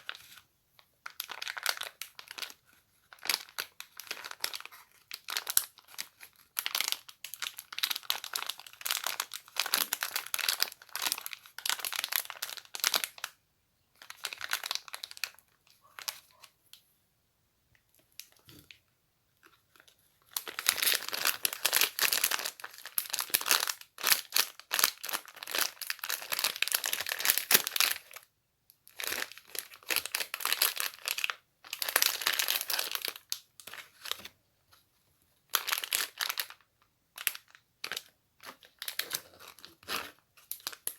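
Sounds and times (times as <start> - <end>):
crinkly material rustling: 0.0 - 13.4, 14.0 - 16.6, 19.4 - 28.2, 28.8 - 40.9.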